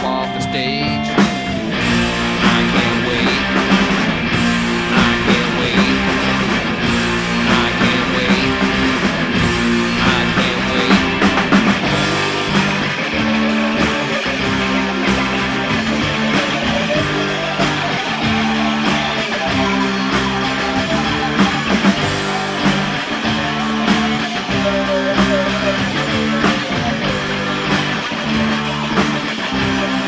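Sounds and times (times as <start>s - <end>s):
drum kit: 0.0s - 30.0s
electric guitars strumming: 0.0s - 30.0s.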